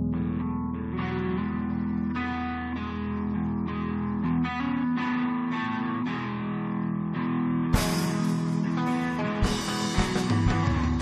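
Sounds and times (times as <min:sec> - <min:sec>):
guitars plucking slow notes: 0:00.0 - 0:11.0.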